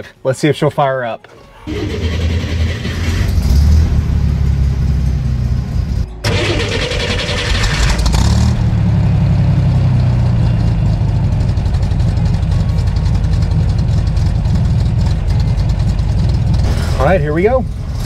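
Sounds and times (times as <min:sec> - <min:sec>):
car engine idling loudly: 0:01.7 - 0:18.0.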